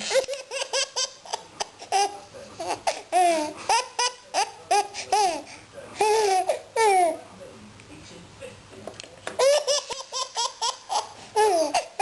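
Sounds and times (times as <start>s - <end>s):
baby laughing: 0.0s - 7.2s, 9.4s - 12.0s.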